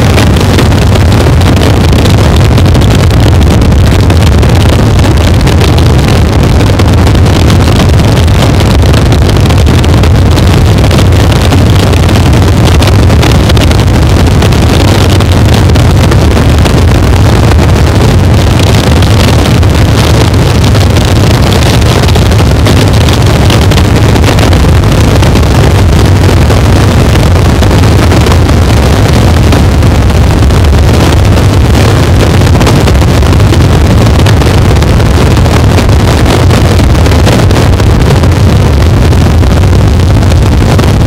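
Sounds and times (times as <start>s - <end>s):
deep low rumble: 0.0s - 41.0s
distorted electronic noise: 0.0s - 41.0s.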